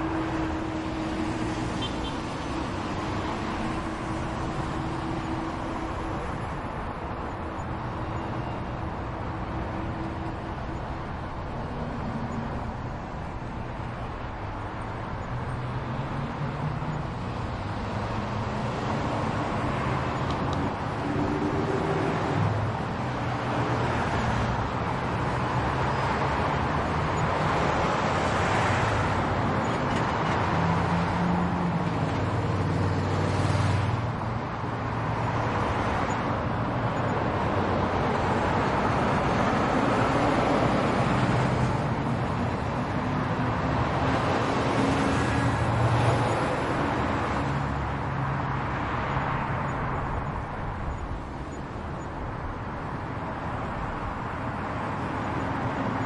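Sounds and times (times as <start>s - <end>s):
road traffic: 0.0s - 56.0s
vehicles passing: 0.0s - 56.0s.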